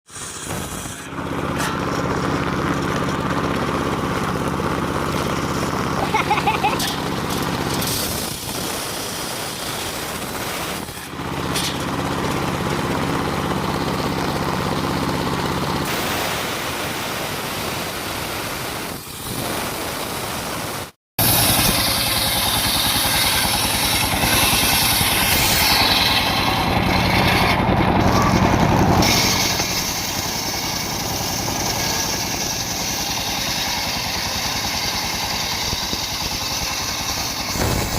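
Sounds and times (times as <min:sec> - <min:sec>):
sawmill engine running: 0:00.1 - 0:37.9.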